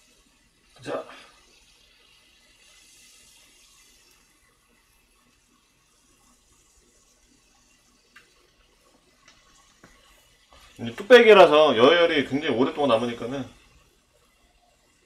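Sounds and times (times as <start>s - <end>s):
gas stove burner hissing: 0.0s - 15.0s.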